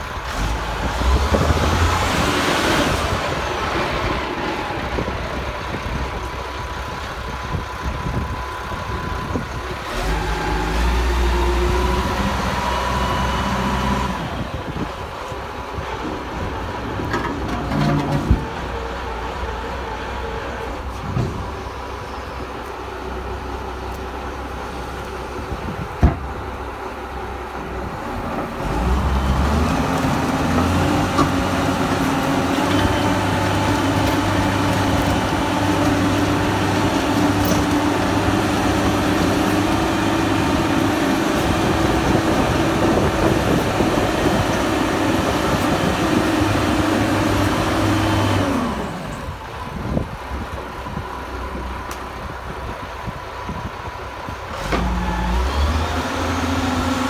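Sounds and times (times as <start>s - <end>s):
diesel drill engine running: 0.0s - 57.0s.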